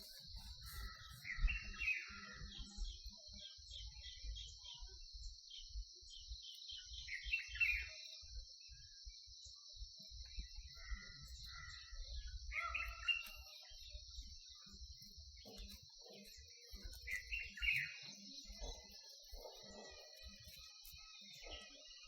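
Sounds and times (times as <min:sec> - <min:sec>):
birds chirping: 0:00.0 - 0:09.6, 0:10.2 - 0:22.0
insects droning: 0:00.0 - 0:22.0.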